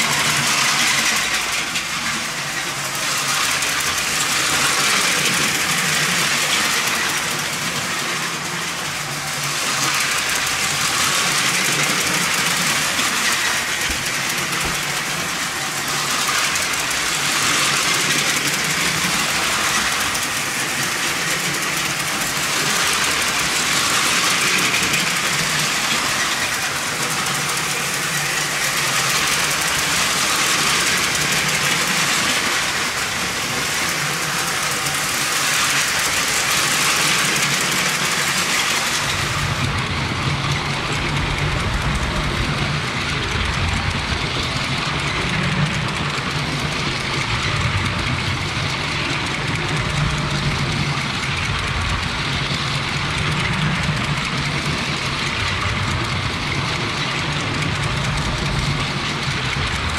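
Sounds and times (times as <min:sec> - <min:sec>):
toy trains running on track: 0:00.0 - 0:59.9.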